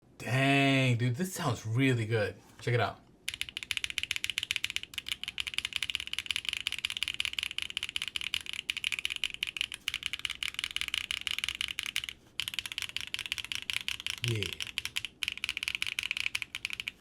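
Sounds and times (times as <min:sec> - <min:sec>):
mechanical keyboard typing: 0:03.3 - 0:17.0.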